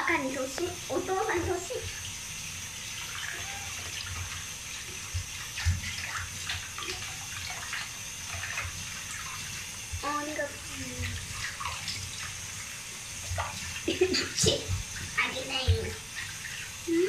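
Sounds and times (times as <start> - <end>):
tap water running and splashing: 0.0 - 17.0.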